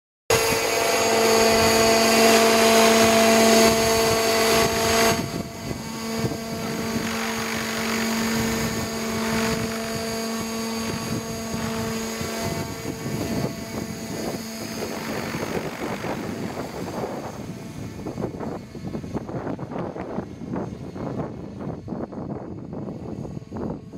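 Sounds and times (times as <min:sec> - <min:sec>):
high motor whine: 0:00.3 - 0:23.9
model helicopter rotor drone: 0:00.3 - 0:23.9.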